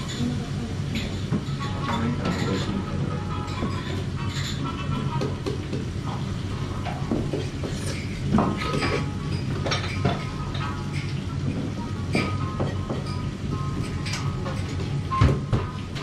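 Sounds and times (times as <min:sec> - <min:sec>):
tableware clinking: 0:00.0 - 0:06.2, 0:06.8 - 0:16.0.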